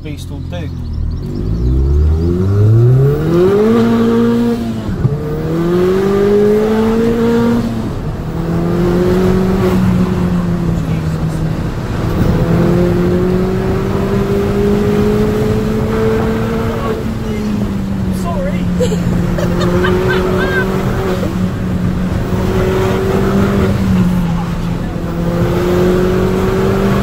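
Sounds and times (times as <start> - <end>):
car engine accelerating with upshifts: 0.0 - 27.0.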